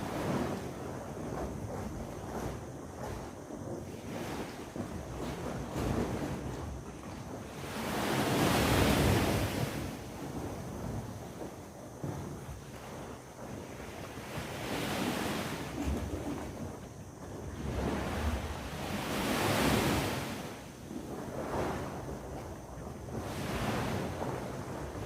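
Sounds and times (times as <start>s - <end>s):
waves breaking on shore: 0.0s - 25.0s
wind on microphone: 0.0s - 25.0s.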